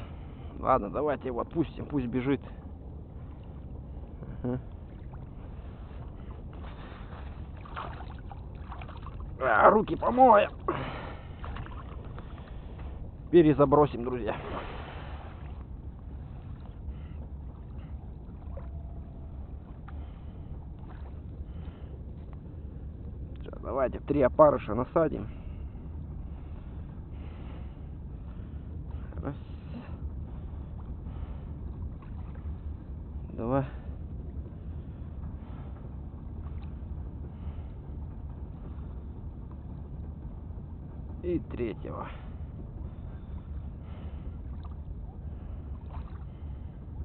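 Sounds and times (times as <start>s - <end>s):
low outdoor rumble: 0.0s - 47.0s
wind buffeting microphone: 0.0s - 47.0s.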